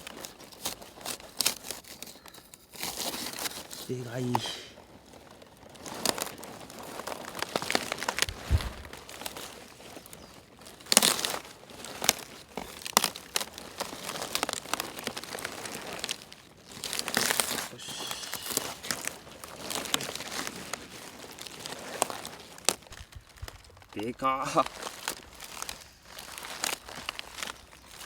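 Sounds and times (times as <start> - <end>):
cabbage leaves rustling and crunching: 0.0 - 28.0.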